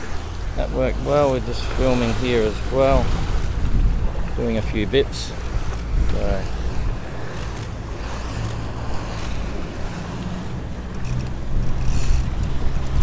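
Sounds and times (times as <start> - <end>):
boat engine running: 0.0 - 13.0
water rushing: 0.0 - 13.0
wind noise on microphone: 1.7 - 13.0.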